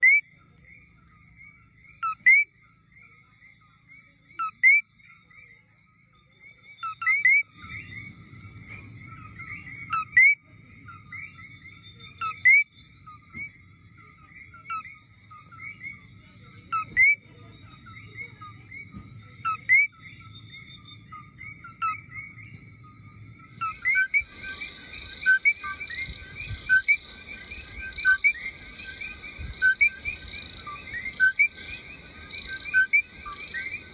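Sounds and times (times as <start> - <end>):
frogs calling in chorus: 0.0 - 33.9.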